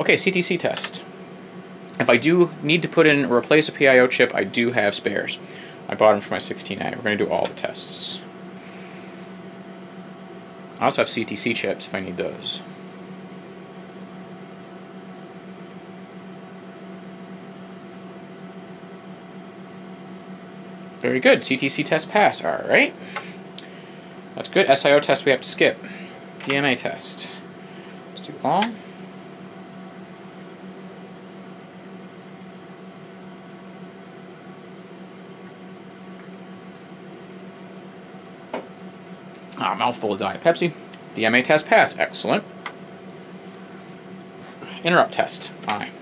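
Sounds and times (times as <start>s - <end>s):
computer cooling fan whirring: 0.0s - 46.0s.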